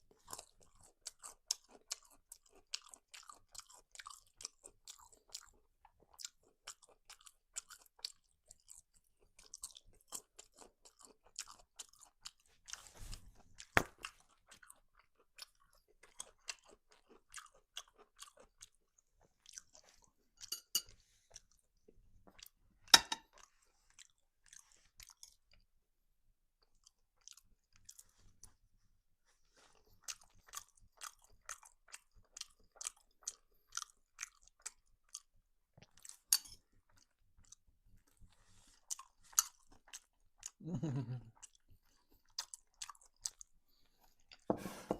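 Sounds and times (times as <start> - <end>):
person chewing crunchy food: 0.1 - 25.7, 26.6 - 28.6, 29.4 - 44.9.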